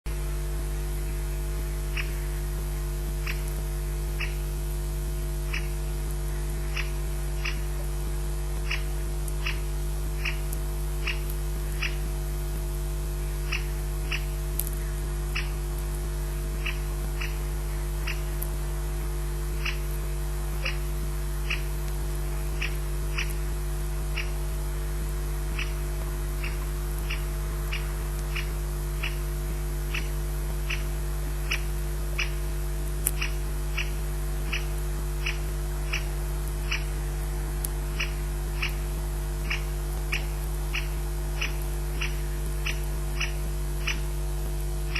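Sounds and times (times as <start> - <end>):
electrical mains hum: 0.1 - 44.9.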